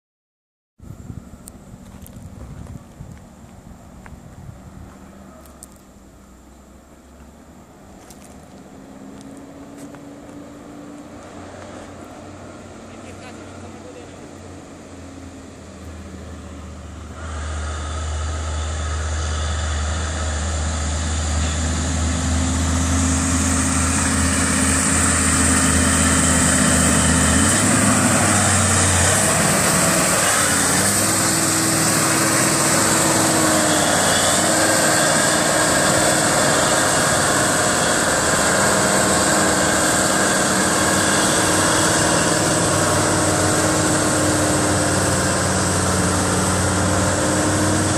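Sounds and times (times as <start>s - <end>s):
truck diesel engine passing: 1.0s - 47.9s.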